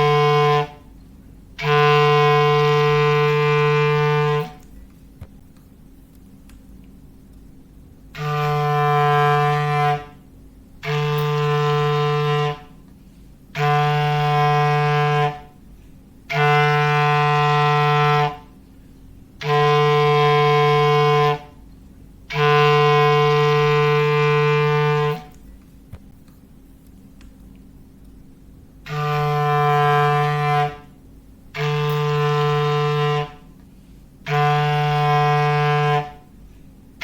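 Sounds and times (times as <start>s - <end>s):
foghorn blasts: 0.0s - 4.8s, 8.1s - 25.4s, 28.8s - 37.0s.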